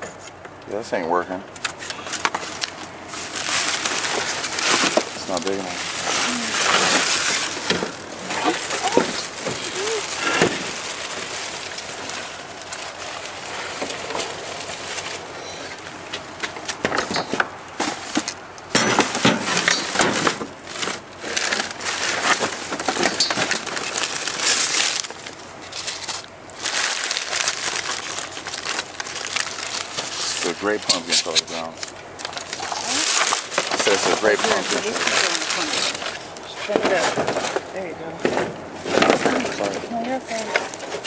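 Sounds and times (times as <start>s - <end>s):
plastic and paper rustling: 1.7s - 18.4s, 19.0s - 41.0s.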